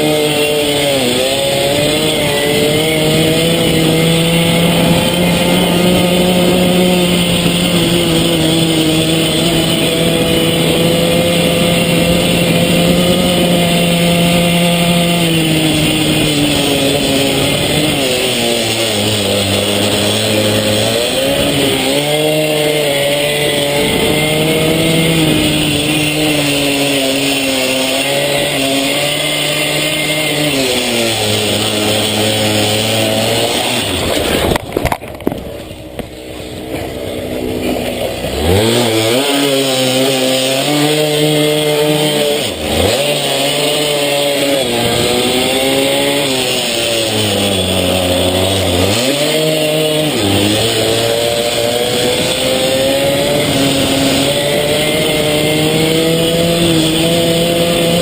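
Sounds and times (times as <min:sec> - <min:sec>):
pitbike engine revving: 0:00.0 - 0:58.0.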